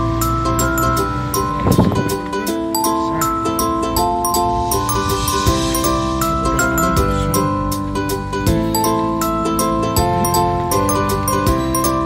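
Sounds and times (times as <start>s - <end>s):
bell-like instrumental music: 0.0s - 12.0s.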